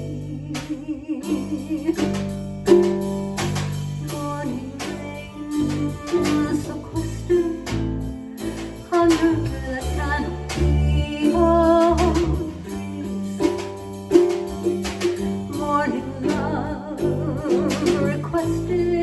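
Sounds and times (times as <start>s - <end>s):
acoustic guitar: 0.0s - 19.0s
bass line: 0.0s - 19.0s
person singing folk song: 0.0s - 19.0s.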